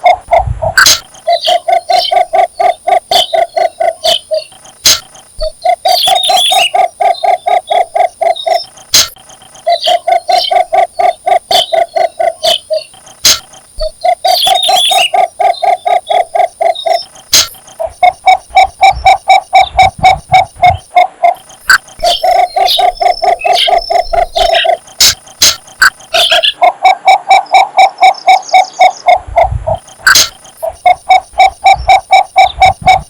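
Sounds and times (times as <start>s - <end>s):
sharp clicks: 0.0s - 26.6s
bird low croaking call: 0.0s - 33.0s
faint high chirps: 0.0s - 33.0s.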